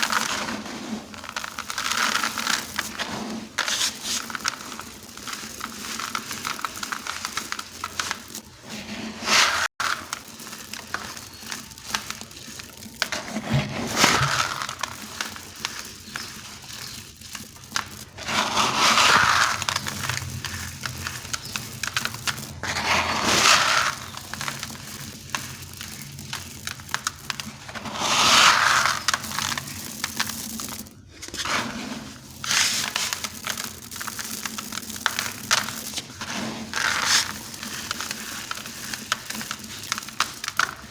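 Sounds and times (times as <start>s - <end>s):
blocks crumbling and crunching: 0.0s - 40.9s.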